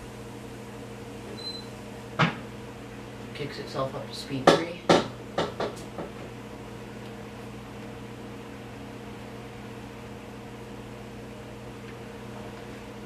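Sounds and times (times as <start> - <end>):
ceiling fan whirring: 0.0 - 13.0
kitchen exhaust fan humming: 0.0 - 13.0.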